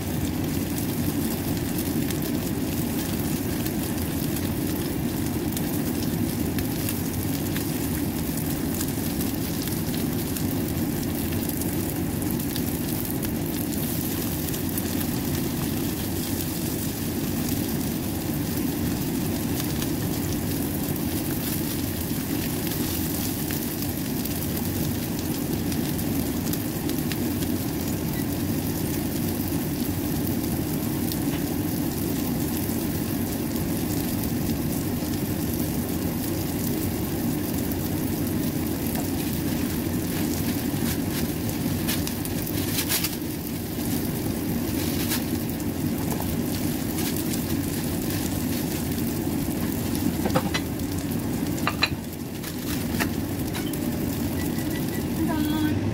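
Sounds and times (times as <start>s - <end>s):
patties sizzling in oil: 0.0s - 55.8s.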